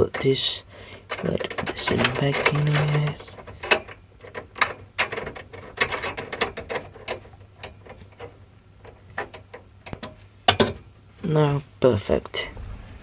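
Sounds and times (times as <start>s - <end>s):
hard parts clicking and rattling: 0.0s - 10.9s.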